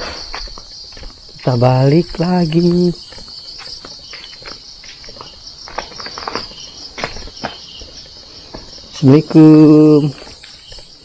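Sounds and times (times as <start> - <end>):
crickets trilling: 0.0 - 11.0
footsteps and scuffs: 0.0 - 11.0.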